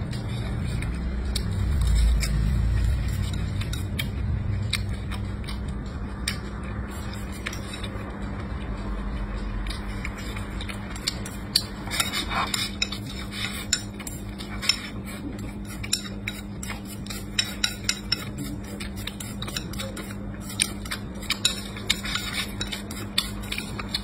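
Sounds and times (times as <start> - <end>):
chewing and eating: 0.0 - 24.0.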